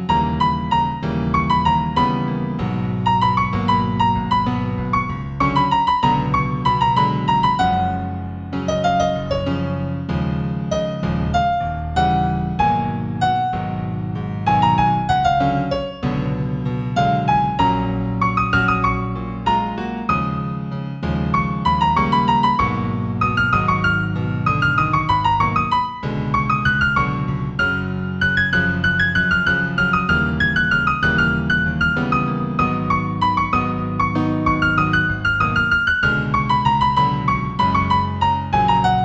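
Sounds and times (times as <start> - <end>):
new-age keyboard music: 0.0 - 39.0.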